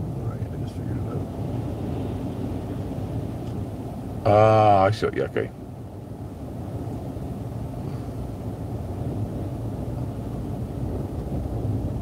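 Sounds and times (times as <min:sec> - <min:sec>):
waves surging low rumble: 0:00.0 - 0:12.0.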